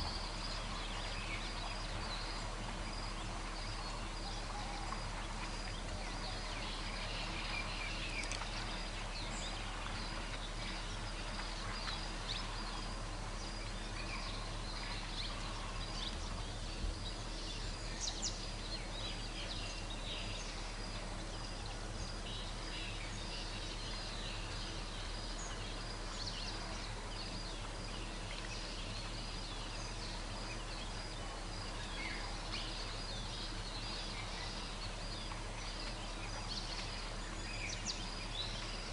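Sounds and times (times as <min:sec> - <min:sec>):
bird calls and chirps: 0:00.0 - 0:38.9
low hum: 0:00.0 - 0:38.9.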